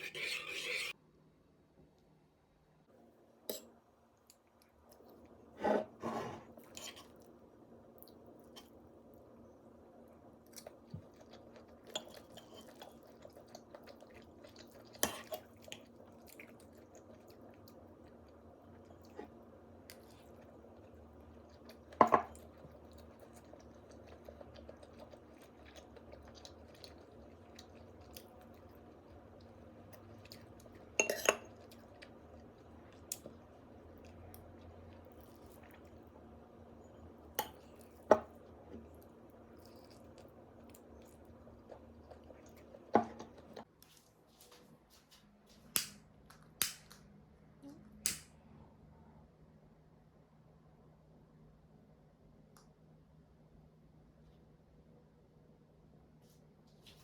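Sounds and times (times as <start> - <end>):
low background hum: 0.0 - 57.0.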